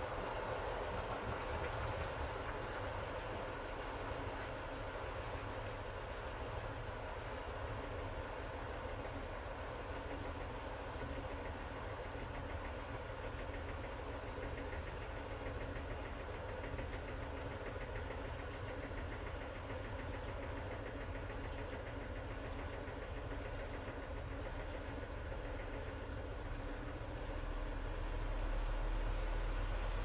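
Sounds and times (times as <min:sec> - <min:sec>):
washing machine spinning: 0:00.0 - 0:30.0.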